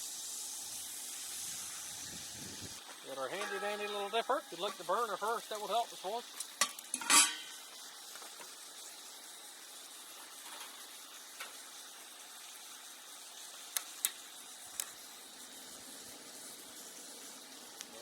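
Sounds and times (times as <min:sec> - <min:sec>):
steaks searing in a pan: 0:00.0 - 0:18.0.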